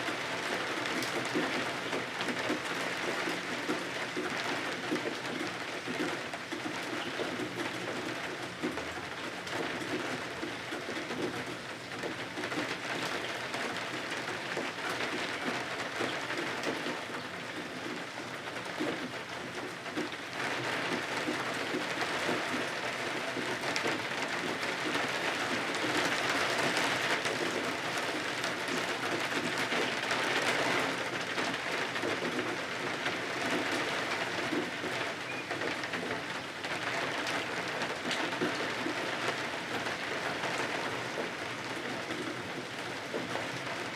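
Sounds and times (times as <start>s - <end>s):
rain on windows: 0.0s - 43.9s.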